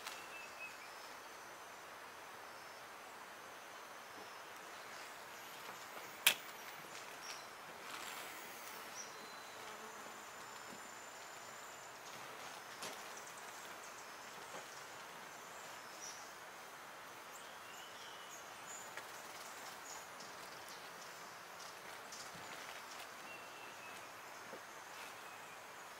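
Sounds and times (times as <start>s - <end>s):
insect hum: 0.0s - 25.9s.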